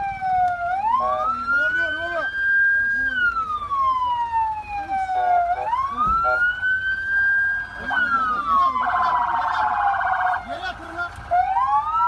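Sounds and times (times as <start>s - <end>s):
fast pulsing siren tone: 0.0s - 12.0s
police siren wailing: 0.0s - 12.0s.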